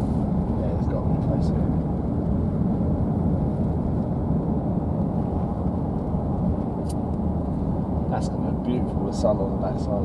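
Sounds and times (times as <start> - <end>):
road and engine rumble inside car: 0.0 - 10.0.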